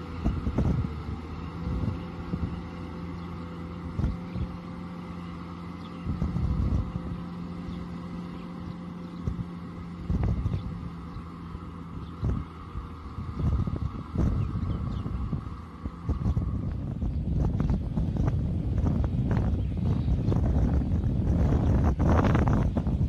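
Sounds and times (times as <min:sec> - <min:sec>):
tractor diesel engine under load: 0:00.0 - 0:23.0
wind buffeting microphone: 0:00.0 - 0:23.0.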